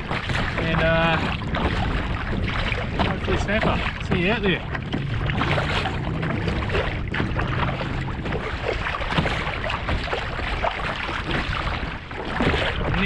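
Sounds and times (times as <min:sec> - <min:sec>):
paddle strokes: 0:00.0 - 0:13.0
water splashing against hull: 0:00.0 - 0:13.0
wind buffeting microphone: 0:00.0 - 0:13.0.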